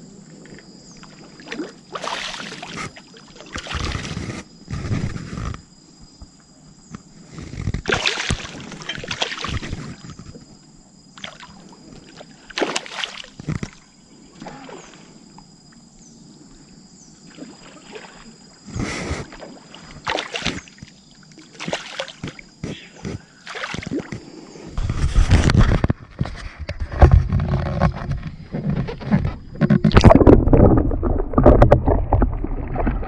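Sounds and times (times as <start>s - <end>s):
water splashing and sloshing: 0.4s - 5.2s, 7.8s - 15.4s, 17.2s - 33.0s.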